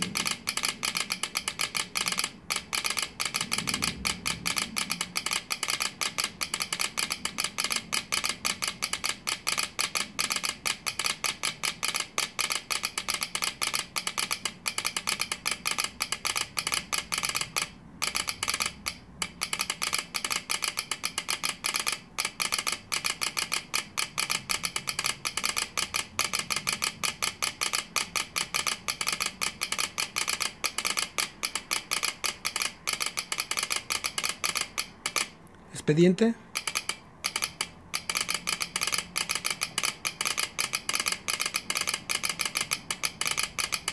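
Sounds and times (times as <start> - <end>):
telegraph key clicking: 0.0 - 35.4, 36.6 - 43.9.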